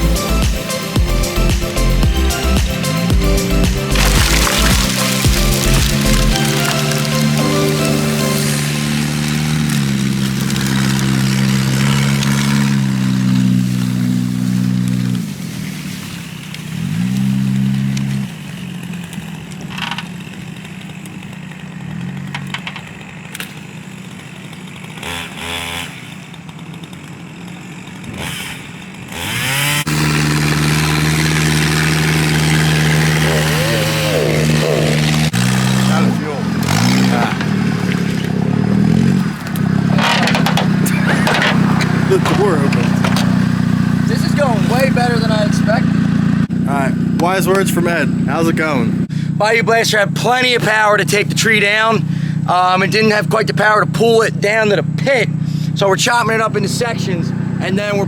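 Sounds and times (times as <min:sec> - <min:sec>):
gasoline engine revving: 0:00.0 - 0:58.0.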